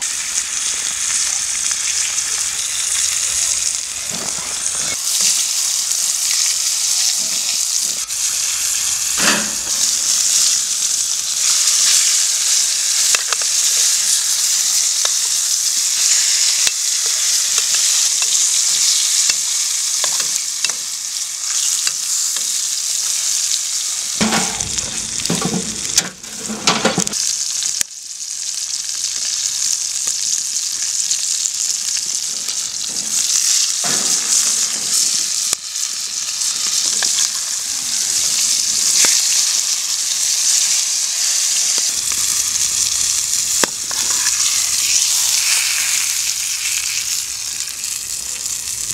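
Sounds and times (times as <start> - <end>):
fish frying in oil: 0.0 - 48.9.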